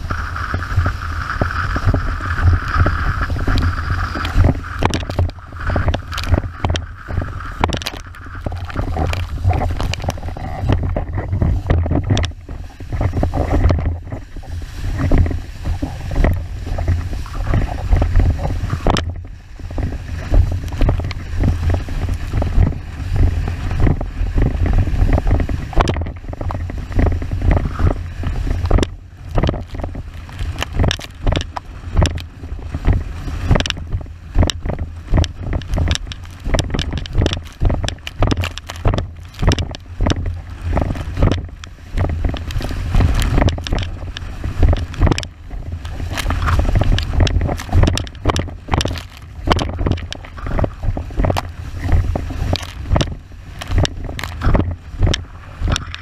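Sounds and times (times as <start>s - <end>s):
board slapping on water: 0.0s - 56.0s
rushing water: 0.0s - 56.0s
wind buffeting microphone: 0.0s - 56.0s.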